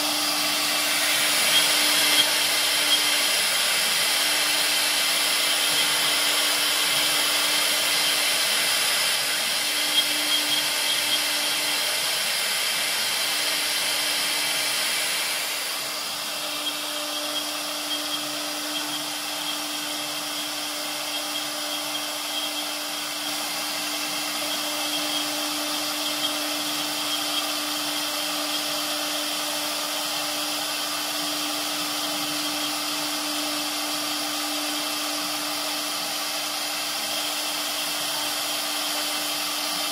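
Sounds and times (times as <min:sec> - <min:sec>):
bit cutting wood hiss: 0:00.0 - 0:39.9
router spindle humming: 0:00.0 - 0:39.9.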